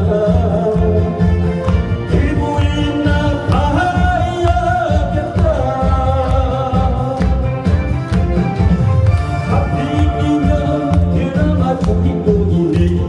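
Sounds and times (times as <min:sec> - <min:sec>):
gliding vocal melody: 0:00.0 - 0:08.4, 0:09.3 - 0:13.0
pulsing bass beat: 0:00.0 - 0:13.0.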